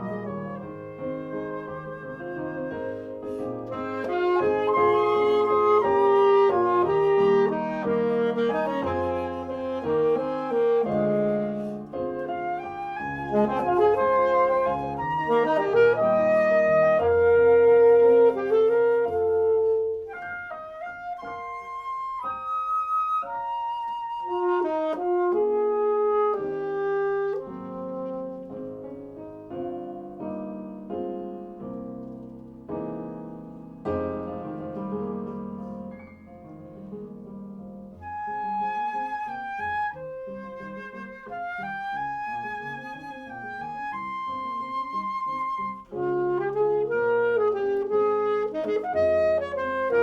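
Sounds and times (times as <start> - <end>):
alto saxophone melody: 0.0 - 33.0, 37.9 - 50.0
flute melody: 0.0 - 50.0
piano accompaniment: 0.0 - 50.0.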